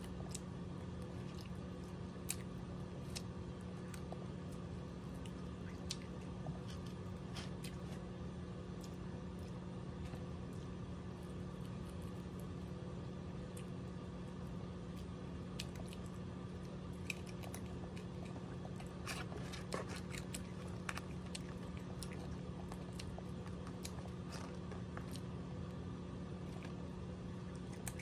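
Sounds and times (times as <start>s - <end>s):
person chewing crunchy food: 0.0s - 12.8s, 13.4s - 28.0s
steady low hum: 0.0s - 28.0s.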